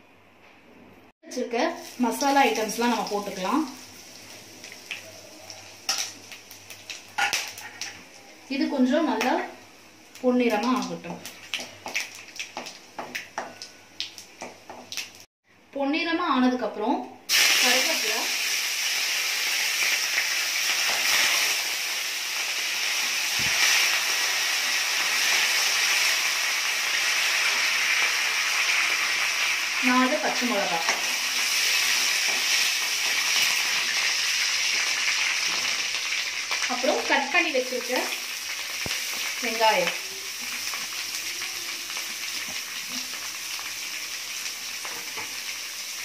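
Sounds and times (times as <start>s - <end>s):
spices sizzling in hot oil: 1.4s - 15.3s, 17.3s - 46.0s.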